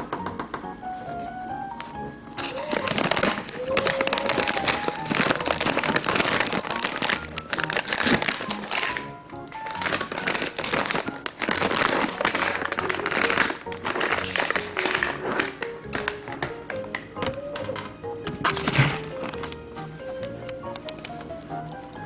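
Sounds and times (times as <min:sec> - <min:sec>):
background music: 0:00.0 - 0:22.0
plastic pouch crinkling: 0:02.4 - 0:22.0.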